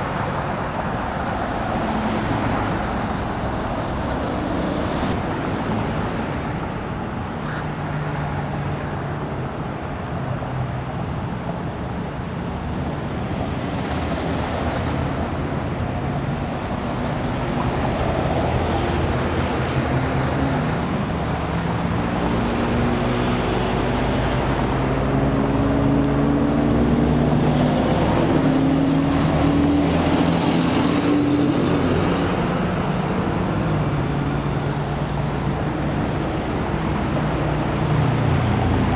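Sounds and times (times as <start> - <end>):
highway road noise: 0.0 - 38.9.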